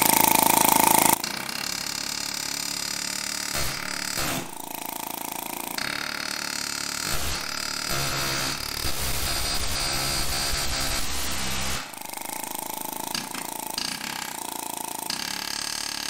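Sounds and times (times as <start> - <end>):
air chisel hammering on steel: 0.0 - 16.0.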